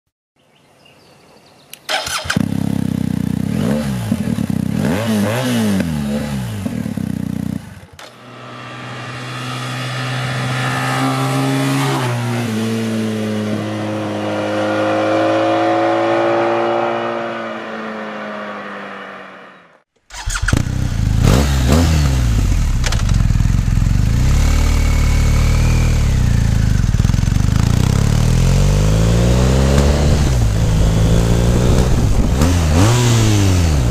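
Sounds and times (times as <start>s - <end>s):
motorcycle engine idling and revving: 1.9s - 33.9s.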